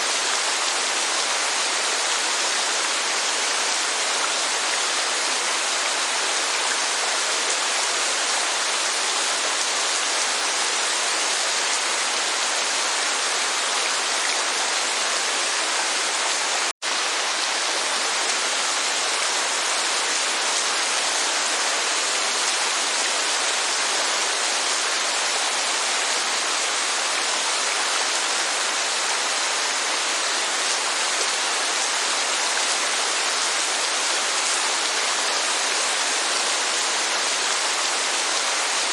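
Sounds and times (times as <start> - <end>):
rain and waterfall rushing: 0.0 - 38.9.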